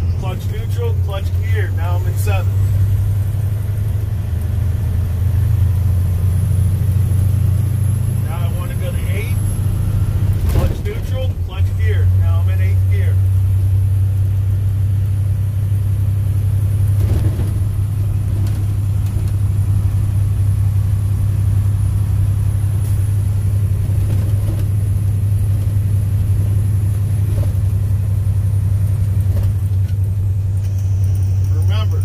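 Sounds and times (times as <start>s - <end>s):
road noise: 0.0s - 32.0s
truck diesel engine drone: 0.0s - 32.0s.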